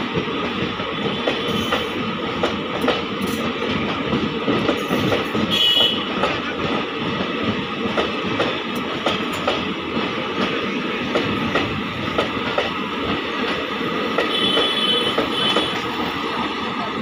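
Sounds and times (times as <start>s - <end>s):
train wheels rumbling on rails: 0.0s - 17.0s
wheels clicking over rail joints: 0.0s - 17.0s.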